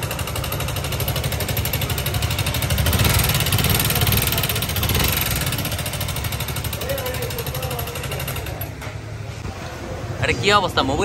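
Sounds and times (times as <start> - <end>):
motorcycle engine ticking clatter: 0.0 - 9.1.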